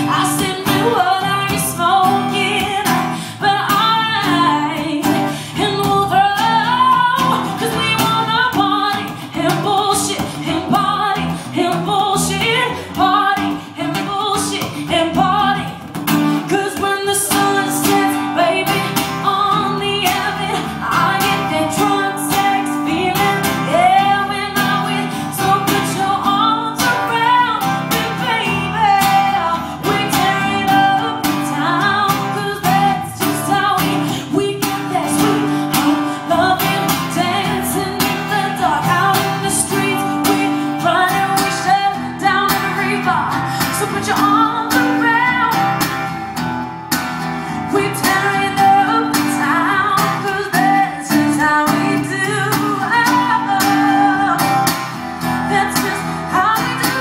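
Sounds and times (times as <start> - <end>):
woman singing: 0.0 - 46.5, 47.1 - 57.0
acoustic guitar: 0.0 - 57.0.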